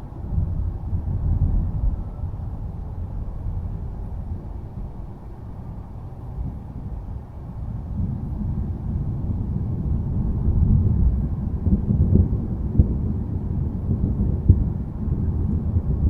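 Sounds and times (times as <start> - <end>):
rolling thunder rumble: 0.0 - 16.0.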